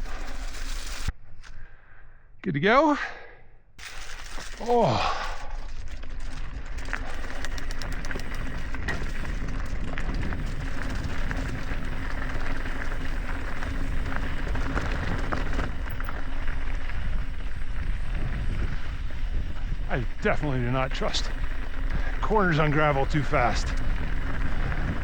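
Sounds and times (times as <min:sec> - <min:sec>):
bike tyres crunching on gravel: 0:00.0 - 0:01.1, 0:03.8 - 0:25.0.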